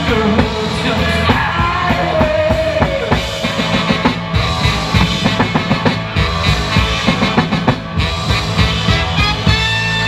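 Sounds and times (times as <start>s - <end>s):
bass guitar: 0.0s - 10.0s
drum kit beats: 0.0s - 10.0s
electric guitar: 0.0s - 10.0s.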